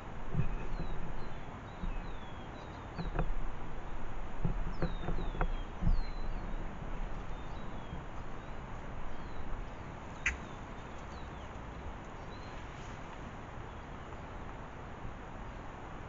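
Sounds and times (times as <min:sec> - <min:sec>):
steady outdoor hiss: 0:00.0 - 0:16.0
small birds chirping: 0:00.3 - 0:14.6.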